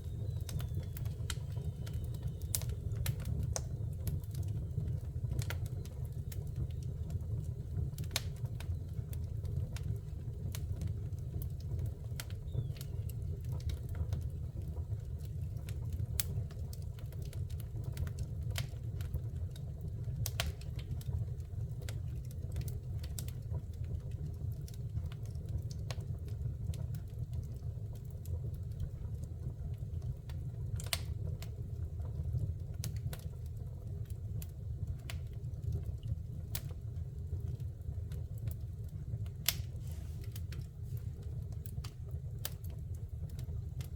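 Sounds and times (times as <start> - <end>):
fire burning in fireplace: 0.0 - 43.9
fire crackles and pops: 0.0 - 43.9.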